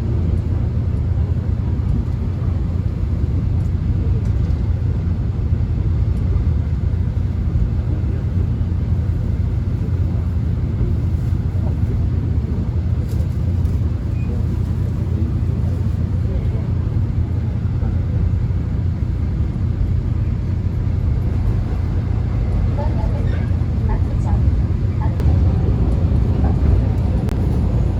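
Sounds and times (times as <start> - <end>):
subway train rumble: 0.0 - 27.9.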